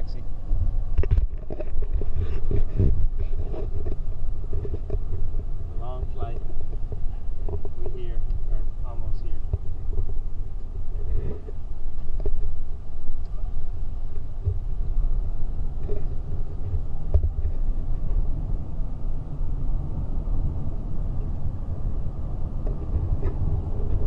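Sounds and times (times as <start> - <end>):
car interior road rumble: 0.0 - 24.0.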